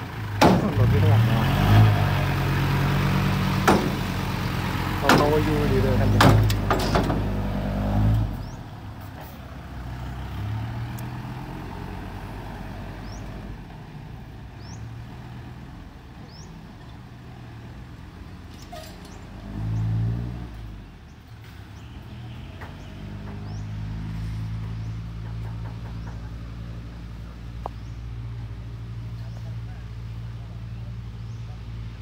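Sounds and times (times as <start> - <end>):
diesel truck engine pulling away: 0.0 - 32.0.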